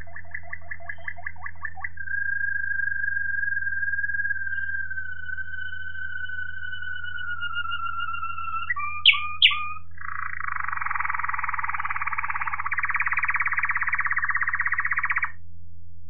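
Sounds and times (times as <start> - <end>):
canary singing: 0.0 - 15.4.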